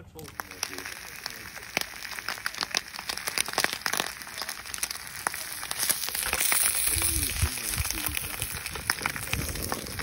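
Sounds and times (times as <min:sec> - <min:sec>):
fat spitting and popping: 0:00.2 - 0:10.0
meat sizzling in a pan: 0:00.2 - 0:10.0.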